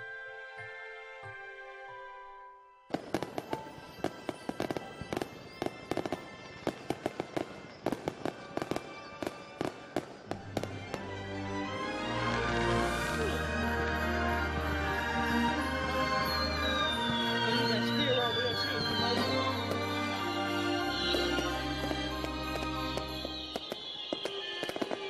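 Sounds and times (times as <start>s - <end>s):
background music: 0.0s - 25.0s
fireworks crackling pops: 2.9s - 13.4s, 15.0s - 25.0s.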